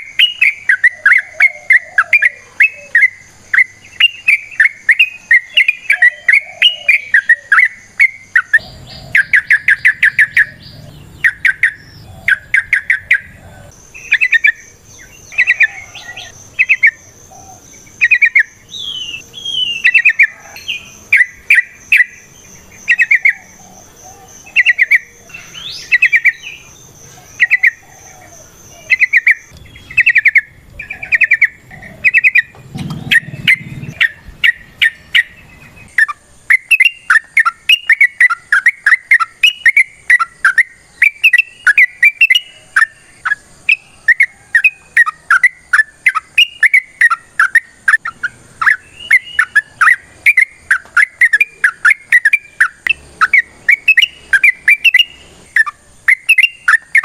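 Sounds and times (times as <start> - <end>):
bird bubbly chattering song: 0.0 - 57.0.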